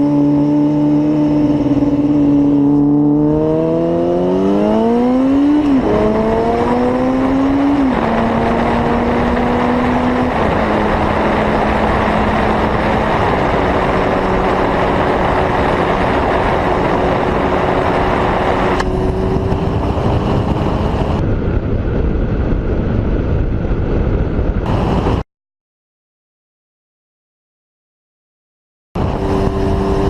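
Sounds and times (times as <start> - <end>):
motorcycle engine running: 0.0 - 25.2, 29.0 - 30.0
wind rush on microphone: 0.0 - 25.2, 29.0 - 30.0.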